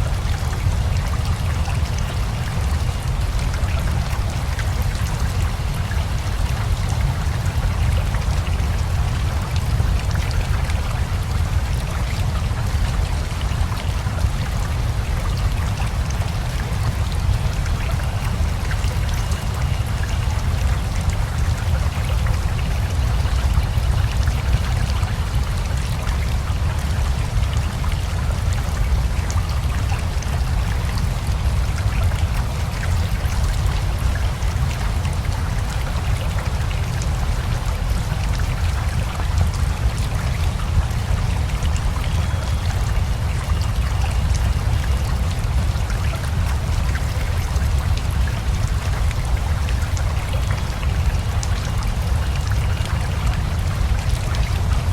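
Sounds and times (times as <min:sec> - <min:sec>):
rain patter: 0:00.0 - 0:54.9
river water flowing: 0:00.0 - 0:54.9.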